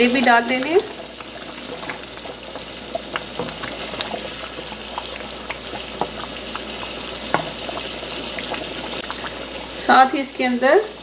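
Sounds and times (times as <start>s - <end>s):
wooden spoon stirring: 0.0s - 9.5s
thick gravy bubbling and popping: 0.0s - 11.0s.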